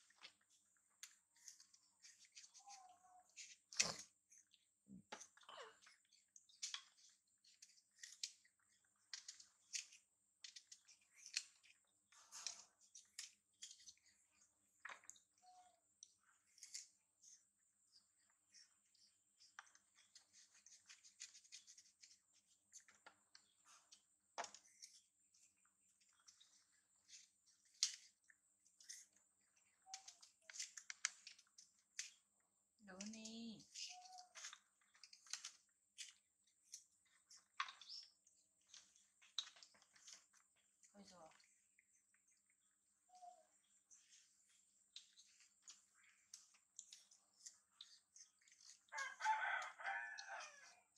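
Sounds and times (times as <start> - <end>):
crisp fruit crunching: 0.0 - 15.2, 16.0 - 17.4, 18.5 - 42.6, 43.9 - 50.9
monkeys chewing: 0.0 - 50.9.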